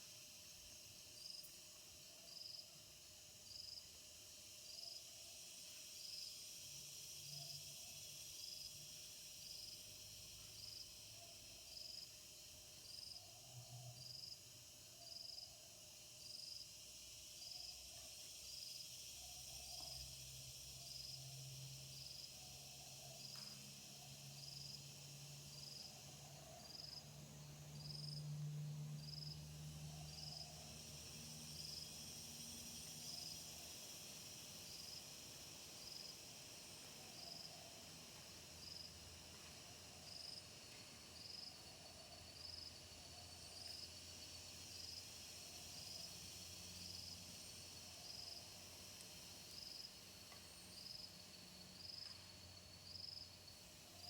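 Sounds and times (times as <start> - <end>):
high hiss of insects: 0.0 - 54.0
insect chirping: 0.0 - 54.0.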